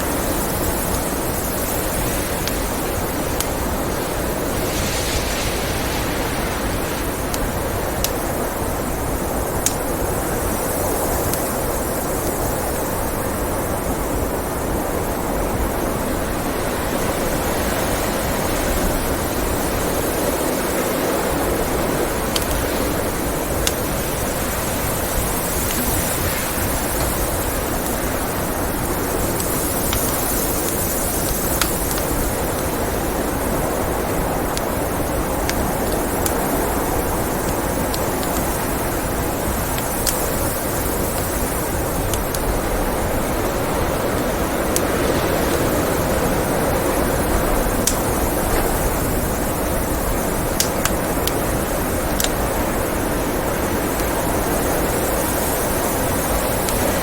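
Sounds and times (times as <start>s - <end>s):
wood fire popping: 0.0s - 13.1s, 17.6s - 57.0s
blizzard wind blowing: 0.0s - 57.0s.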